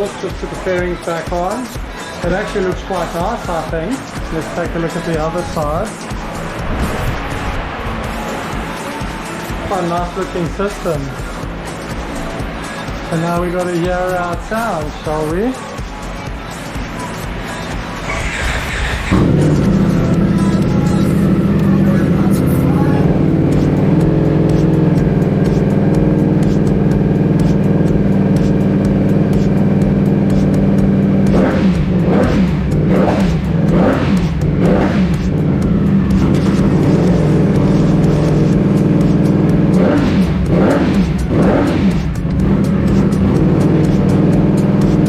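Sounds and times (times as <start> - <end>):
motorcycle engine idling and revving: 0.0 - 45.0.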